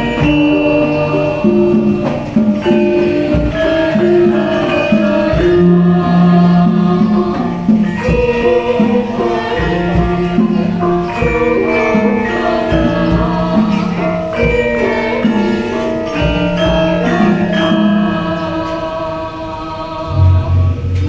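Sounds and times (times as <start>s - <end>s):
metallophone keys struck: 0.0s - 19.2s
gongs: 0.0s - 21.0s
voices singing: 0.0s - 21.0s.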